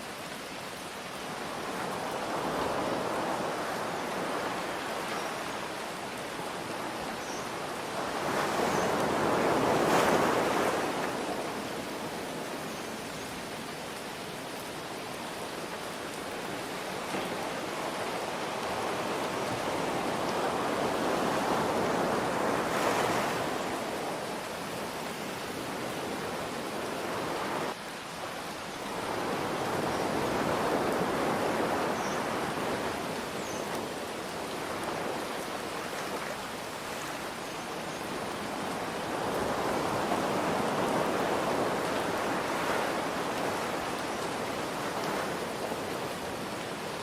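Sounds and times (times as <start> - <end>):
gentle rain hiss: 0.0 - 47.0
ocean waves washing in: 1.1 - 47.0.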